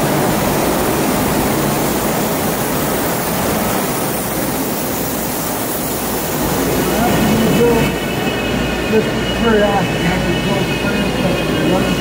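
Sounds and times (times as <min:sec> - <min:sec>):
factory machinery roar: 0:00.0 - 0:12.0.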